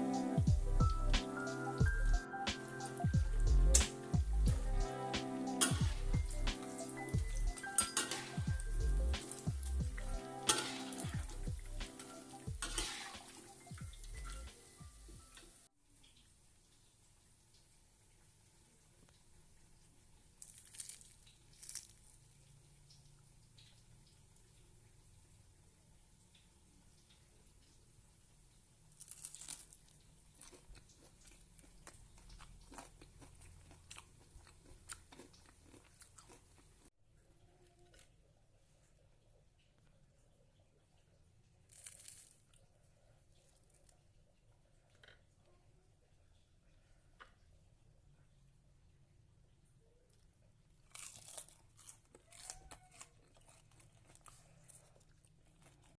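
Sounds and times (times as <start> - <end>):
crunchy fritter being chewed: 0.0 - 16.3, 19.1 - 25.3, 28.5 - 39.0, 39.6 - 45.6, 50.0 - 56.0.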